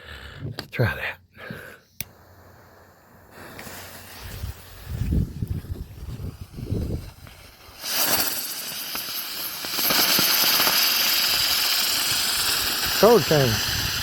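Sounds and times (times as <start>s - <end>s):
firework spinner hissing: 1.9s - 14.0s.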